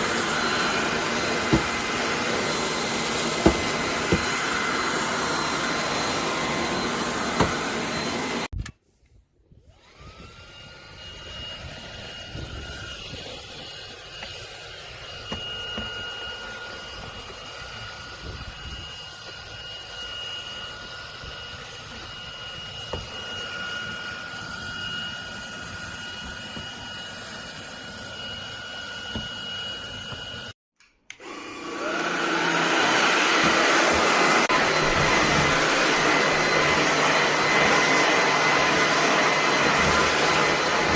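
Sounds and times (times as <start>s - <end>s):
stick vacuum whining: 0.0s - 8.7s, 9.5s - 40.9s.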